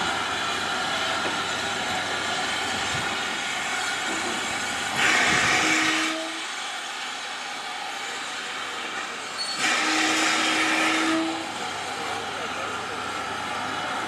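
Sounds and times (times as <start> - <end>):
loud hiss of steam: 0.0 - 14.0
steam locomotive hissing: 0.0 - 14.0.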